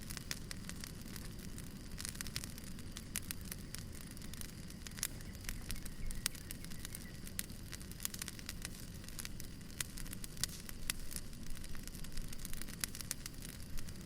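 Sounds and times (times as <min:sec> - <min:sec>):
firewood crackling and popping: 0:00.0 - 0:14.0
low steady rumble: 0:00.0 - 0:14.0.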